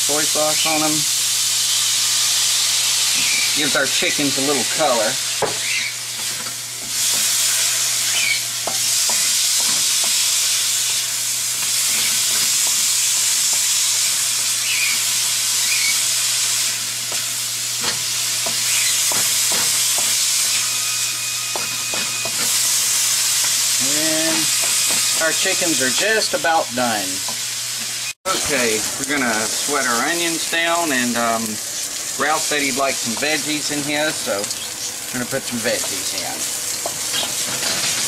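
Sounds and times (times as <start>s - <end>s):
chicken sizzling in hot oil: 0.0s - 38.0s.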